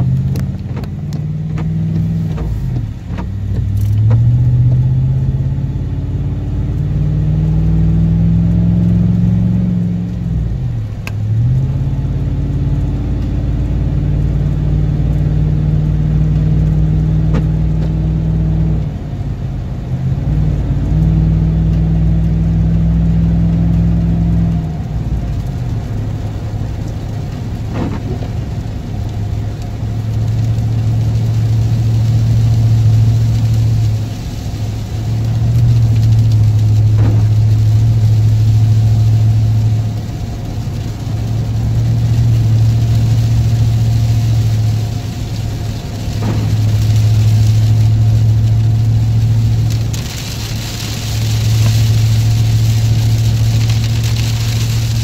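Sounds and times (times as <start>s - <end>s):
road noise: 0.0s - 55.0s
vehicle engine hum: 0.0s - 55.0s.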